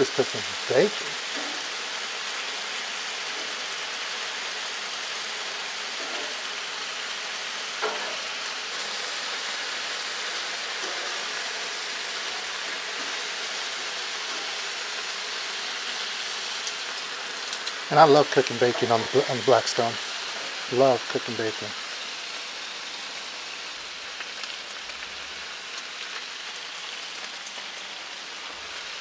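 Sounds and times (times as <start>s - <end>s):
bacon sizzling on a griddle: 0.0s - 29.0s.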